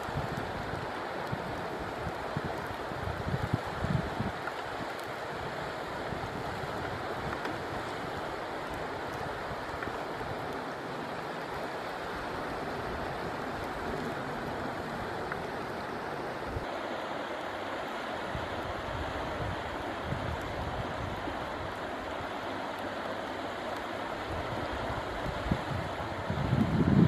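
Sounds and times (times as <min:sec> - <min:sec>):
fast-flowing river rushing: 0:00.0 - 0:27.0.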